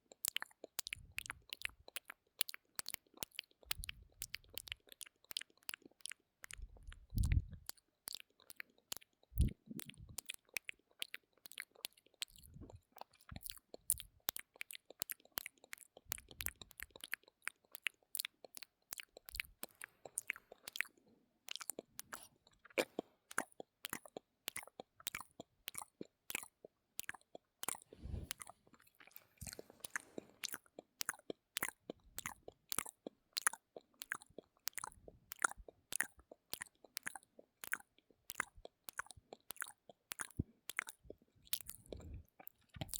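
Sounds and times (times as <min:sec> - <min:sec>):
wet mouth clicks and smacks: 0:00.0 - 0:42.9.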